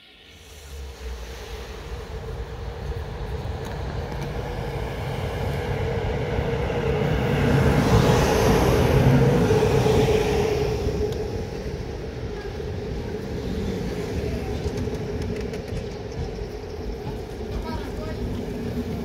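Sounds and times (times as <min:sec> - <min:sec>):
electric locomotive hum: 0:00.0 - 0:19.0
wheels rumbling on rails: 0:00.6 - 0:19.0.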